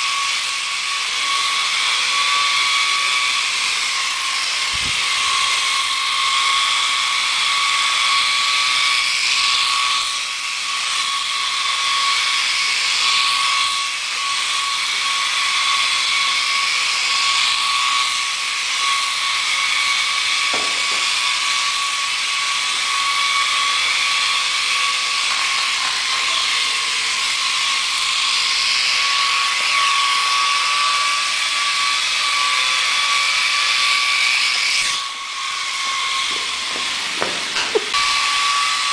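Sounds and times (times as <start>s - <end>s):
toy helicopter motor whining: 0.0s - 38.9s.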